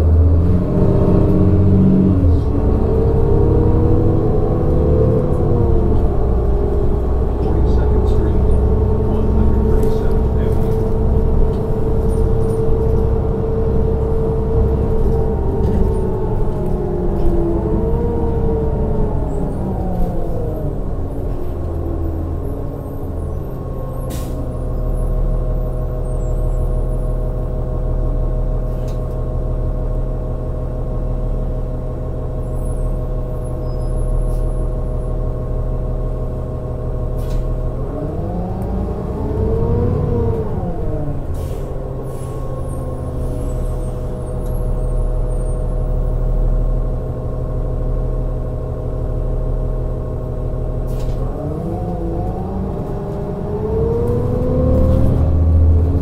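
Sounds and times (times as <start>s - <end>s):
bus engine whine: 0.0s - 56.0s.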